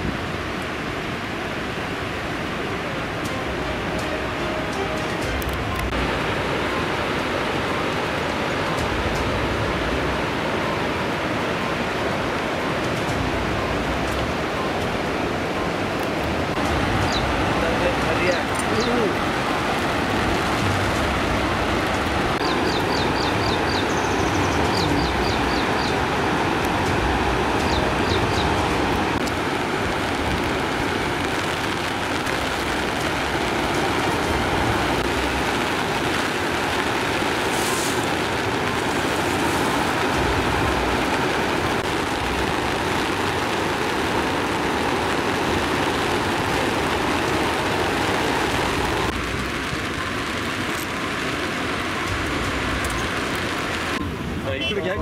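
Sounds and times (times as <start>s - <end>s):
roar of rushing floodwater: 0.0s - 55.0s.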